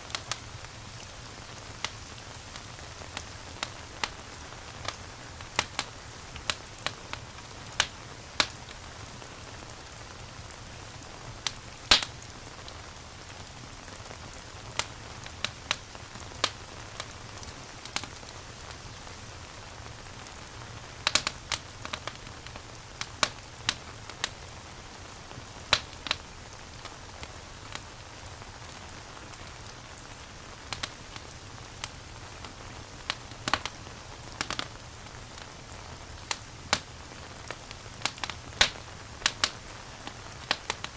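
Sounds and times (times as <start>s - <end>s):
steady rain hiss: 0.0s - 40.9s
wood fire crackling and popping: 0.0s - 40.9s.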